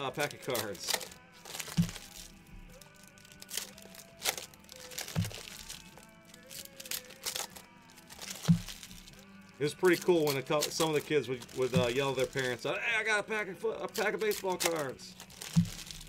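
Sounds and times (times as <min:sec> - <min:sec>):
card packs crinkling and clicking: 0:00.0 - 0:16.0
soft background music: 0:00.0 - 0:16.0.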